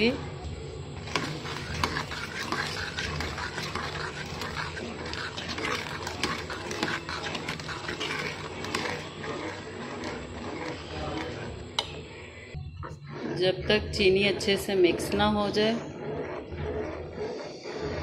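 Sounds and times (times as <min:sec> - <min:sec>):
ladle stirring in pot: 0:00.0 - 0:18.0.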